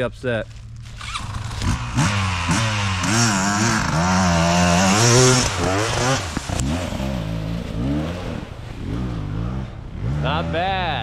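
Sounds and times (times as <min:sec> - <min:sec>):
dirt bike engine revving: 0:00.9 - 0:11.0.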